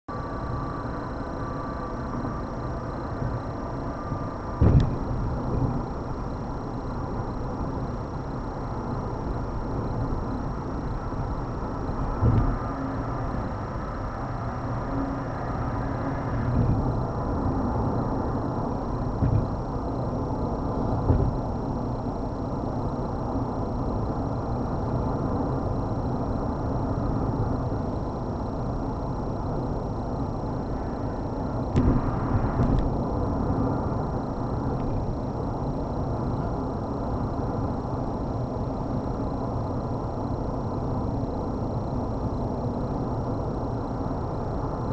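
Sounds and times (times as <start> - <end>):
car road and tyre noise: 0.0 - 44.9.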